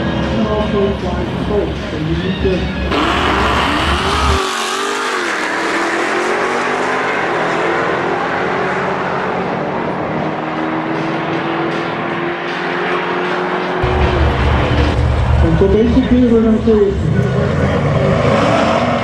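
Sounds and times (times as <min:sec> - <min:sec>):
car engine revving: 0:02.9 - 0:19.0.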